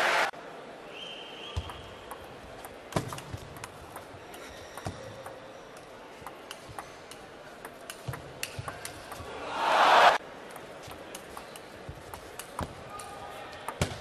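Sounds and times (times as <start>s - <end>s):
table tennis ball clicking: 1.6s - 9.3s, 10.4s - 14.0s.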